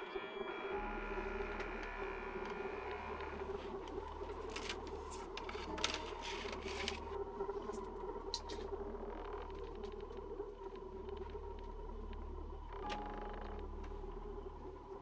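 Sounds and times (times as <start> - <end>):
eerie ambient drone: 0.0 - 15.0.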